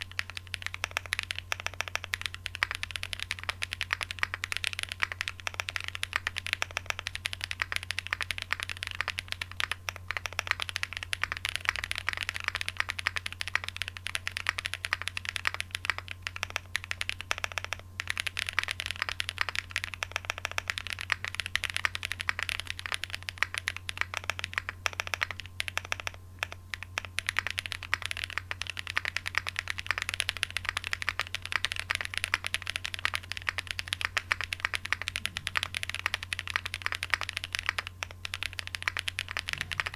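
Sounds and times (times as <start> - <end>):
low steady hum: 0.0 - 39.9
mechanical keyboard typing: 0.0 - 39.9.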